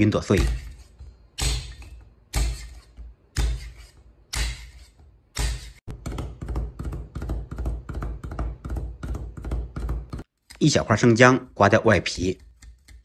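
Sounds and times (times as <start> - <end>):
rapid mincing with cleaver: 0.0 - 10.6, 12.1 - 13.0.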